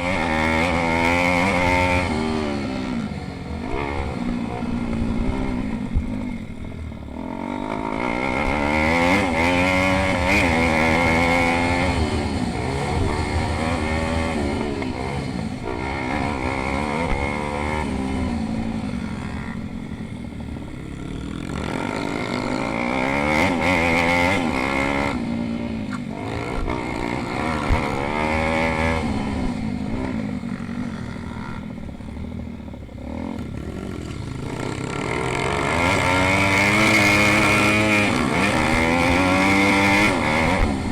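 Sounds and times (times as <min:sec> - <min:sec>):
motorbike engines racing: 0:00.0 - 0:40.9.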